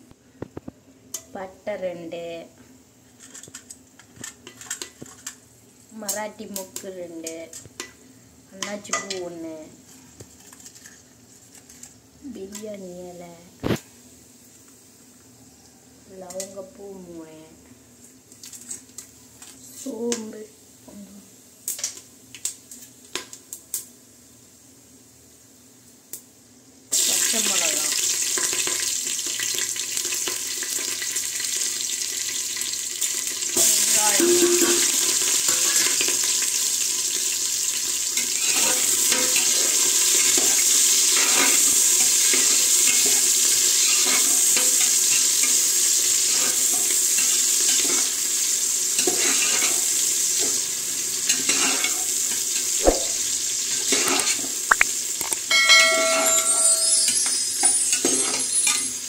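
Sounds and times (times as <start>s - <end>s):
food sizzling in hot oil: 3.1s - 17.4s, 18.0s - 59.0s.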